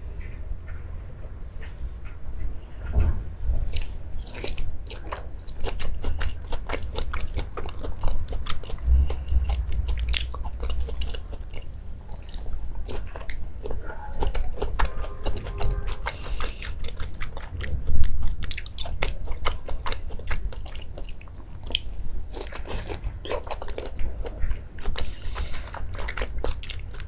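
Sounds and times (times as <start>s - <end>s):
chewing and crunching food: 3.5s - 27.0s.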